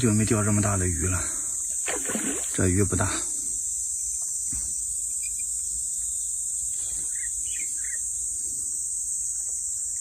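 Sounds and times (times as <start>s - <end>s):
insect chorus buzzing: 0.0s - 10.0s.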